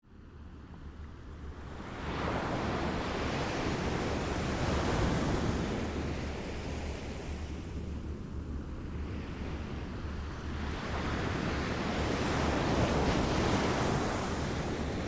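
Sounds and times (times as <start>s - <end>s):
low rumble of wind: 0.0s - 15.0s.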